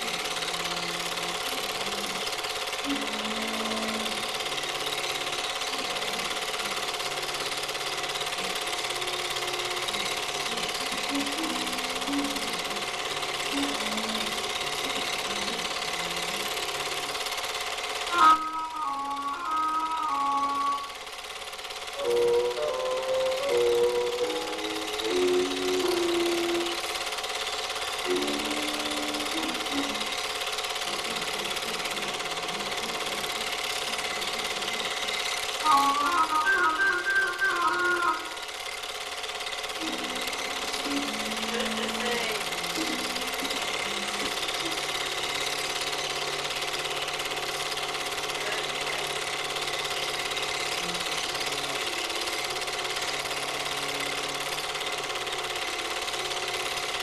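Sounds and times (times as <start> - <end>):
film projector clattering: 0.0 - 57.0.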